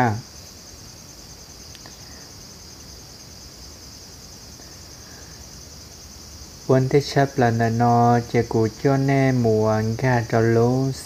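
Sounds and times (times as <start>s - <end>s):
crickets chirring: 0.0s - 11.0s
faint room hiss: 0.0s - 11.0s.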